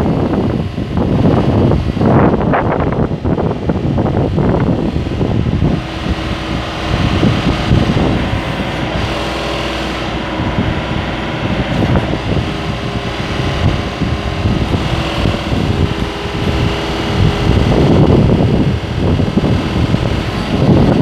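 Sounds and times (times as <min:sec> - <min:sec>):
backhoe engine running: 0:00.0 - 0:21.0.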